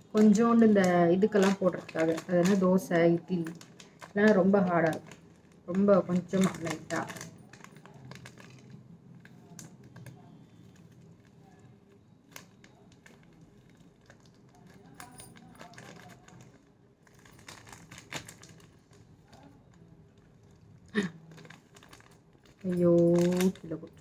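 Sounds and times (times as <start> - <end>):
plastic packet crinkling: 0.1 - 24.0.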